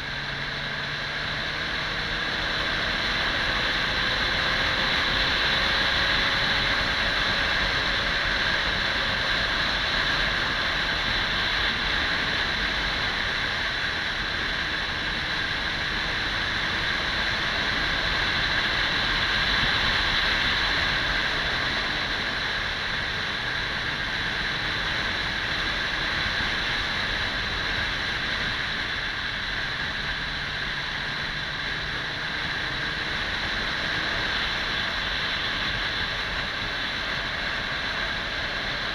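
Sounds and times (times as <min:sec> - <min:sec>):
wind and road rush: 0:00.0 - 0:38.9.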